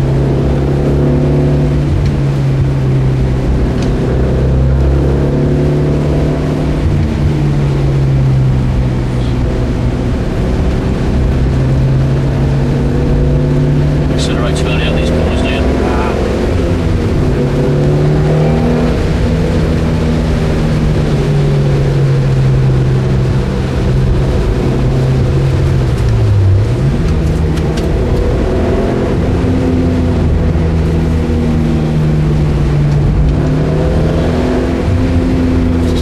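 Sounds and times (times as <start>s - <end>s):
car engine running hard: 0.0s - 36.0s
road noise: 0.0s - 36.0s.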